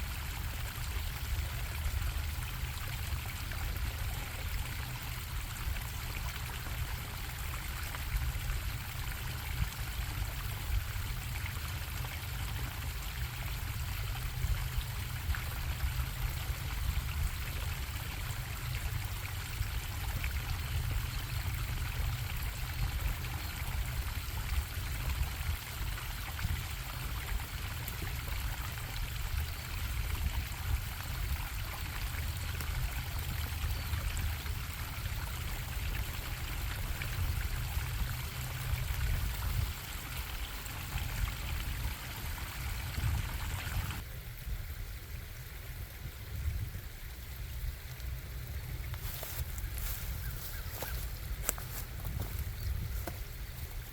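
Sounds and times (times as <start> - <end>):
stream water flowing and bubbling: 0.0 - 53.9.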